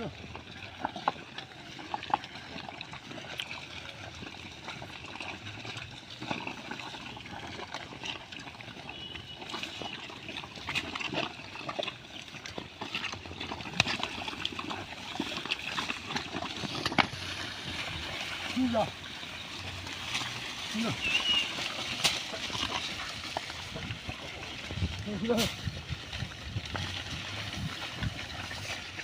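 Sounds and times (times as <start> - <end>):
pigs chewing and snuffling: 0.0 - 29.0.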